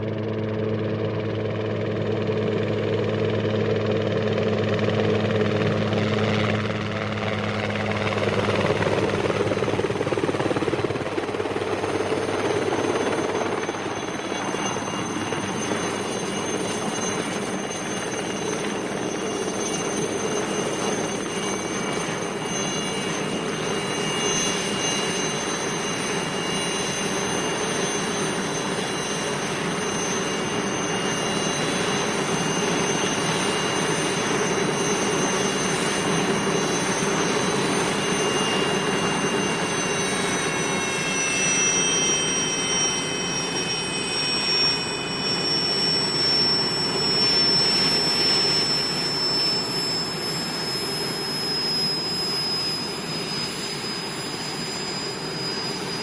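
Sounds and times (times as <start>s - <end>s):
helicopter flying by: 0.0s - 56.0s
thin high whine: 7.4s - 56.0s.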